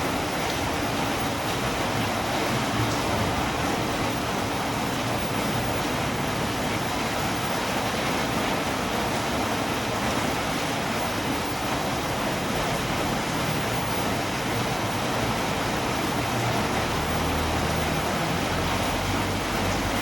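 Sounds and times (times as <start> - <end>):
steady rainfall hiss: 0.0 - 20.0.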